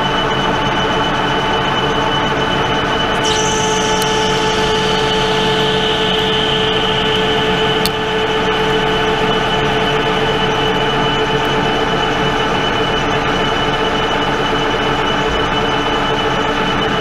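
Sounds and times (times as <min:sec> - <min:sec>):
metal lathe whine: 0:00.0 - 0:17.0.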